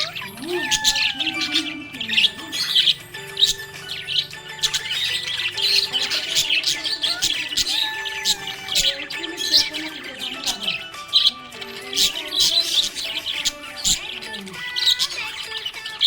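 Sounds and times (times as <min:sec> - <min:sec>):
budgerigars chirping: 0:00.0 - 0:16.0
long held bird tones: 0:00.0 - 0:16.0.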